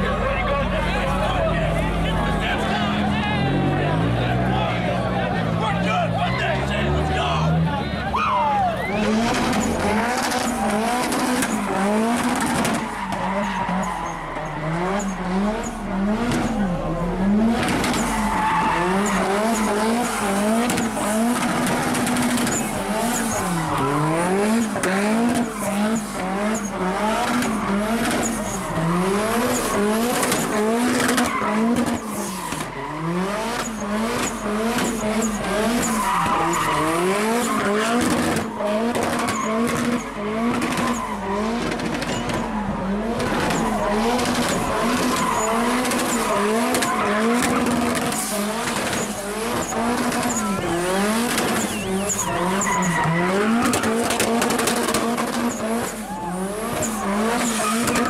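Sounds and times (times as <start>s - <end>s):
car engine revving: 0.0s - 58.0s
tires screeching: 0.0s - 58.0s.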